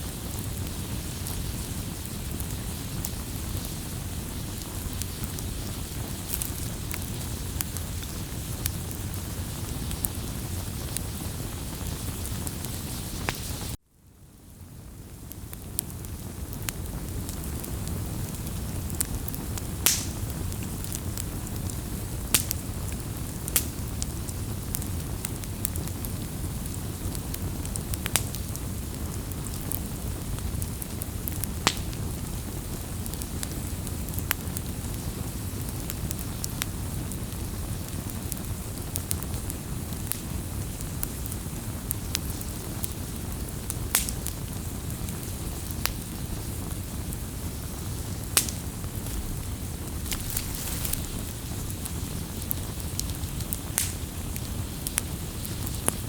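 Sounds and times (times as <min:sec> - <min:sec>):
burning wood crackling and popping: 0:00.0 - 0:13.8, 0:14.4 - 0:56.0
rush of flames: 0:00.0 - 0:13.8, 0:15.2 - 0:56.0.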